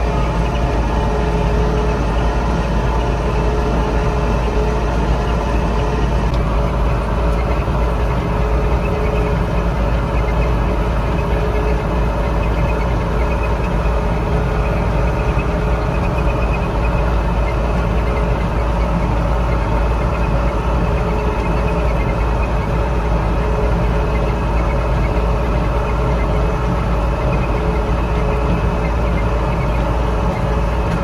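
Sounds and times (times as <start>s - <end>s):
large engine droning: 0.0s - 31.0s.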